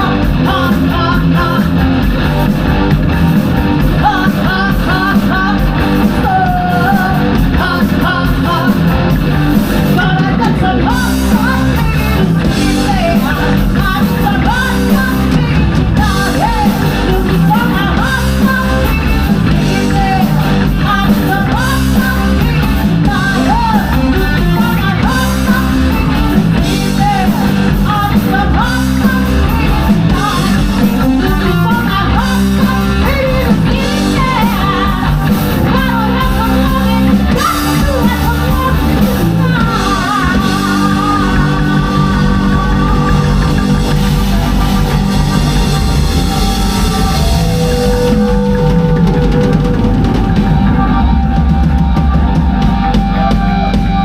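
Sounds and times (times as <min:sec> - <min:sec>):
bass guitar: 0:00.0 - 0:54.0
drums: 0:00.0 - 0:54.0
electric guitar: 0:00.0 - 0:54.0
lead singer: 0:00.0 - 0:54.0.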